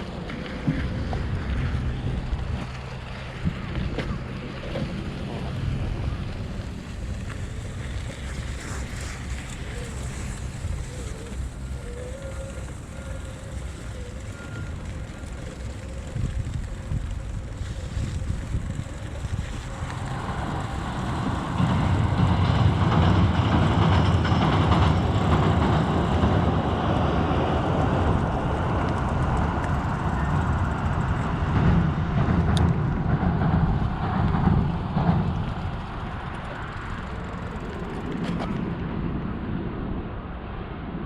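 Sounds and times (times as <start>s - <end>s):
rumble of passing traffic: 0.0s - 41.0s.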